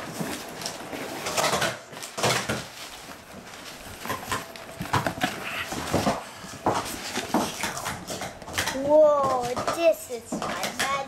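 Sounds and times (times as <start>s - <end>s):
packing paper rustling and crinkling: 0.0s - 11.0s.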